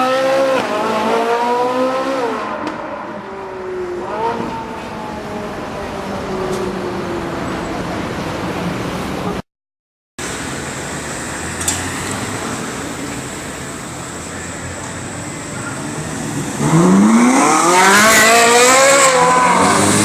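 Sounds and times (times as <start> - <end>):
car engine: 0.0 - 9.4, 10.2 - 20.0
street traffic noise: 0.0 - 9.5, 10.2 - 20.0.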